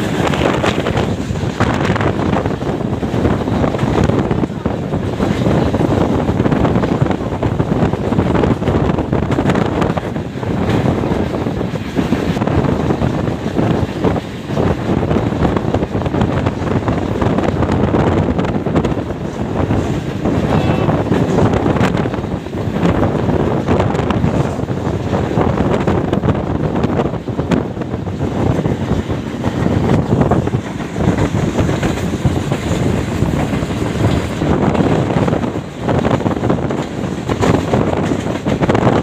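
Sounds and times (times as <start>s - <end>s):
train coach rumbling: 0.0s - 39.0s
wind buffeting microphone: 0.0s - 39.0s.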